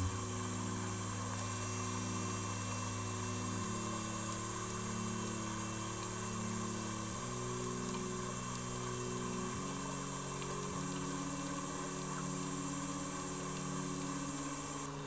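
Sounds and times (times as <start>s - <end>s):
slow ambient music: 0.0s - 15.0s
steady hiss: 0.0s - 15.0s.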